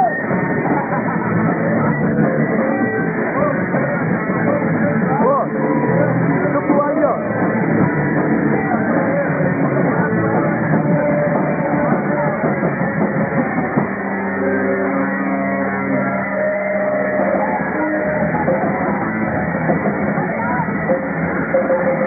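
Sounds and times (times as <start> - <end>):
long held guitar notes: 0.0 - 22.0
rock band playing live: 0.0 - 22.0.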